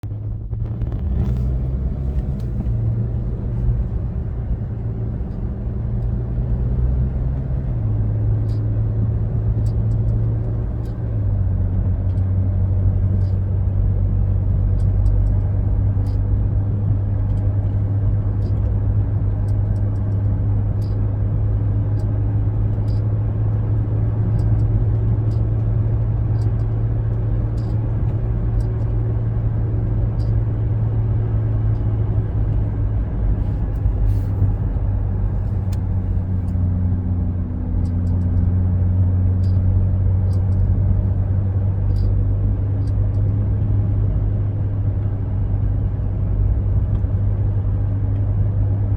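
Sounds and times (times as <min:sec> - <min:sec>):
car engine running: 0:00.0 - 0:48.9
steering clicks: 0:00.6 - 0:48.8.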